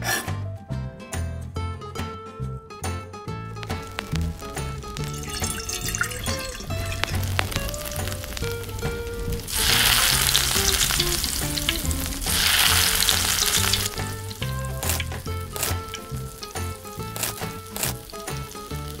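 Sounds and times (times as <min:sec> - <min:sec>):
fish sizzling in hot oil: 0:03.6 - 0:19.0.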